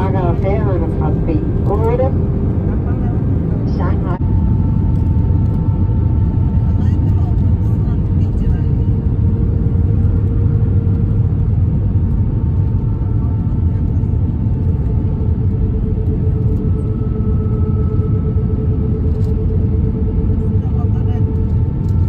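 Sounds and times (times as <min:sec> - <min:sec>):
airliner cabin engine rumble: 0:00.0 - 0:22.0
faint steady whine: 0:00.0 - 0:22.0.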